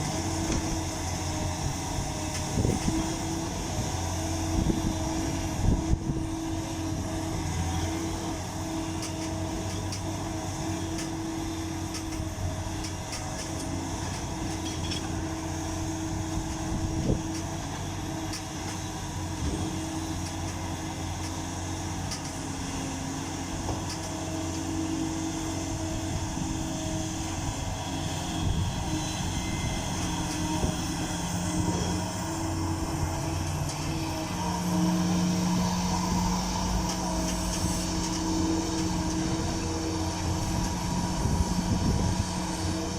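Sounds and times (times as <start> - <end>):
large diesel engine running: 0.0 - 42.9.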